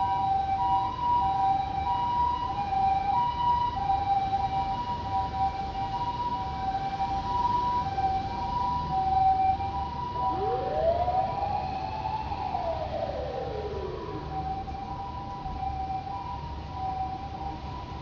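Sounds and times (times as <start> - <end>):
low traffic rumble: 0.0 - 18.0
slow siren wail: 0.0 - 18.0
two-tone ambulance siren: 0.0 - 18.0.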